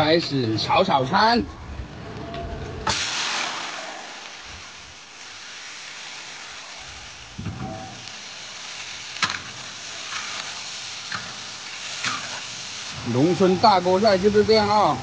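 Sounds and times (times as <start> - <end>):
food sizzling in a wok: 2.9 - 15.0.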